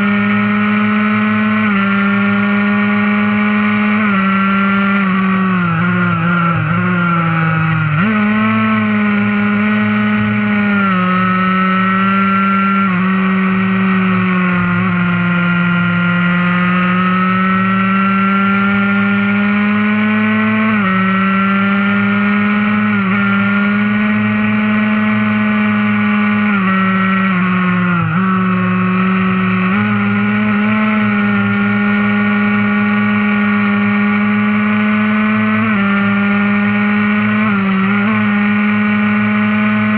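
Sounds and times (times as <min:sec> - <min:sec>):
two-stroke engine revving high: 0:00.0 - 0:39.9.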